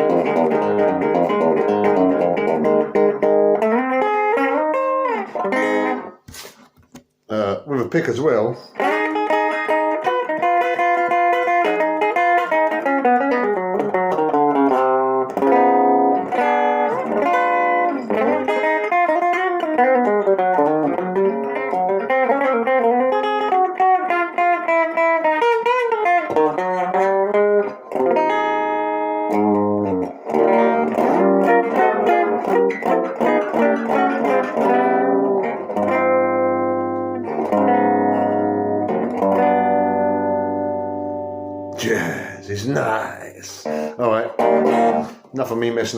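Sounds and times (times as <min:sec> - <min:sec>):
electric guitar played with a pick: 0:00.0 - 0:07.1, 0:08.7 - 0:45.3.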